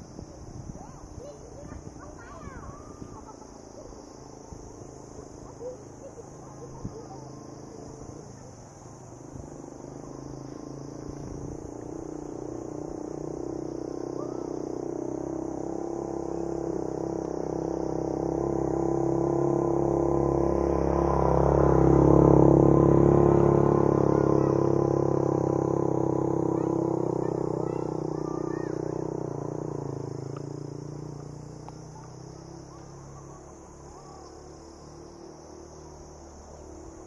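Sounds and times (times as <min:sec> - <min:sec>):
insects trilling: 0:00.0 - 0:37.0
vehicle engine approaching: 0:00.0 - 0:37.0.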